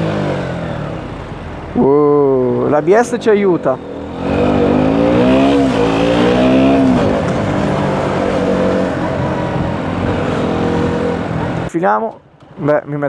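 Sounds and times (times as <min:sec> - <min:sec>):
motorcycle engine accelerating: 0:00.0 - 0:11.7.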